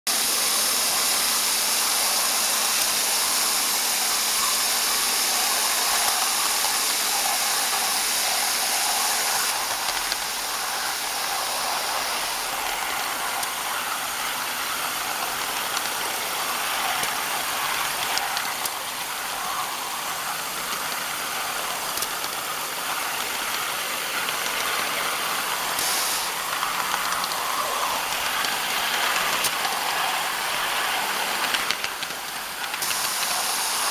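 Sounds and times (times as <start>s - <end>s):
steam hissing: 0.1s - 33.9s
wheels rolling on rails: 0.1s - 33.9s.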